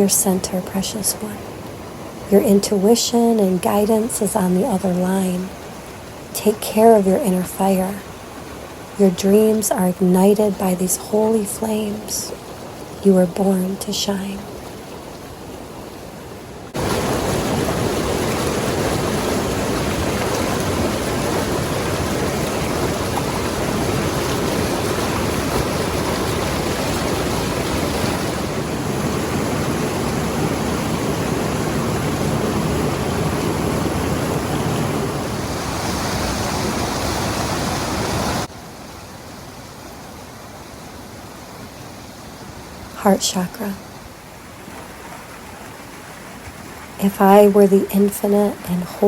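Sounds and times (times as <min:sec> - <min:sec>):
rushing water: 0:00.0 - 0:49.0.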